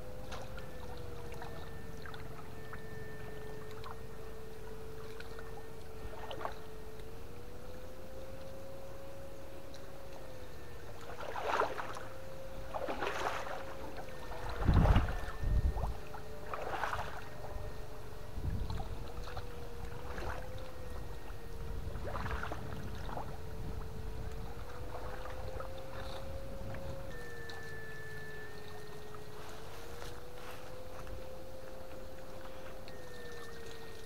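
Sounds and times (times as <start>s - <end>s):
steady wavering whine: 0.0s - 34.0s
water splashing and sloshing: 0.0s - 34.0s.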